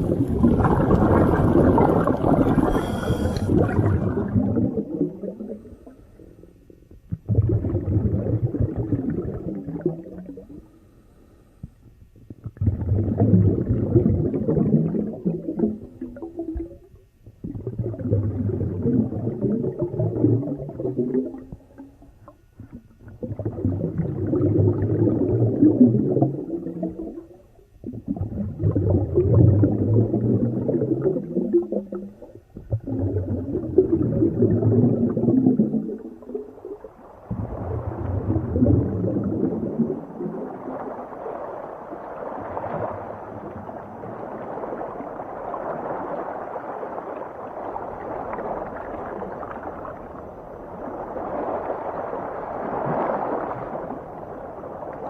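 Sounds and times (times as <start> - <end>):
ocean water underwater surging: 0.0 - 11.6, 12.2 - 55.0.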